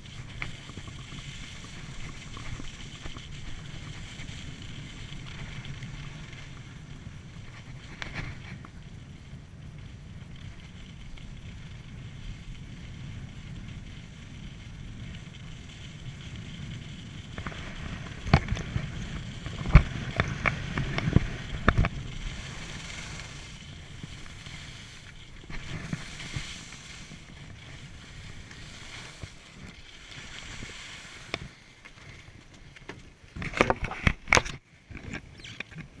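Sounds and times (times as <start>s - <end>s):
wind on microphone: 0.0s - 32.6s
skis scraping over snow: 0.0s - 36.0s.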